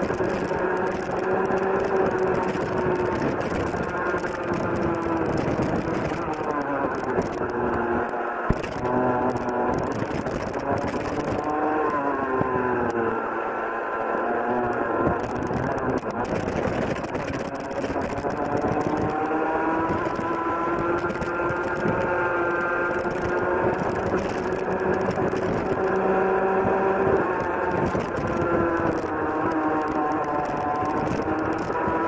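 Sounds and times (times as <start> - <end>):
wind rush over microphone: 0.0 - 13.2, 14.2 - 32.0
kart engine accelerating: 0.0 - 32.0.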